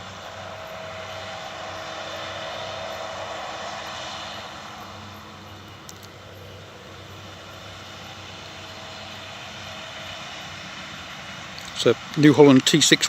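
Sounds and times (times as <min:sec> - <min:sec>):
farm machinery engine drone: 0:00.0 - 0:13.0.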